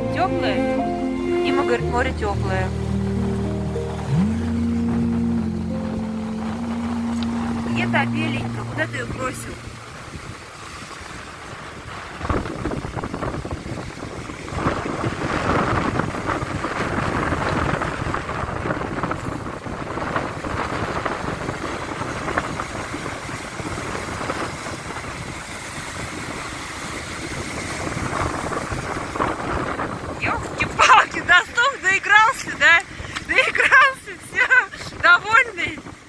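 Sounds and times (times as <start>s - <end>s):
sea surf washing ashore: 0.0s - 36.0s
wind buffeting microphone: 0.0s - 36.0s.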